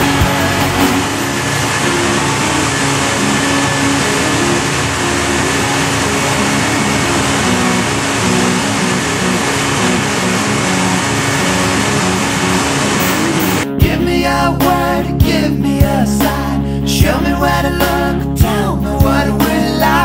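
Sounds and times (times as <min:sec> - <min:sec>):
gas turbine rushing noise: 0:00.0 - 0:20.0.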